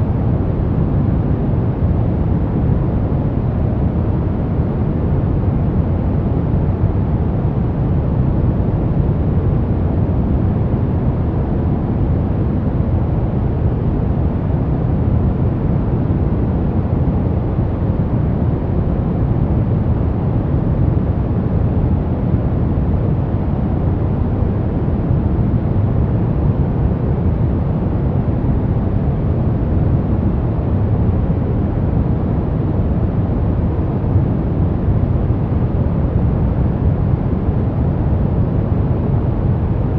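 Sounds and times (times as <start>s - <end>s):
deep rumbling brown noise: 0.0s - 39.9s.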